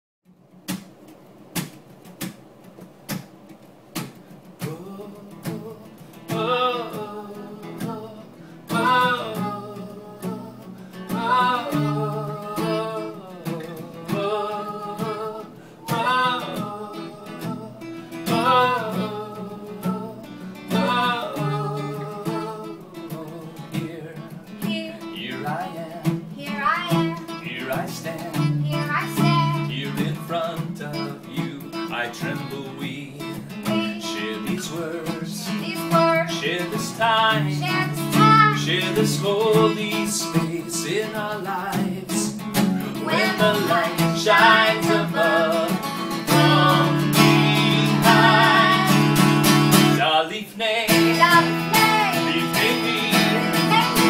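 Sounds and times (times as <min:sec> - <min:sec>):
acoustic guitar strumming: 0:00.3 - 0:54.0
man and woman singing: 0:04.5 - 0:54.0.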